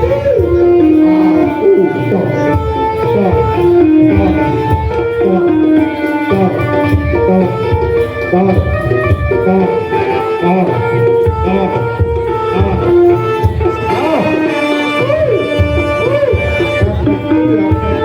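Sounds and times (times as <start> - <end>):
hand drums beating: 0.0 - 18.0
held pitched melody notes: 0.0 - 18.0.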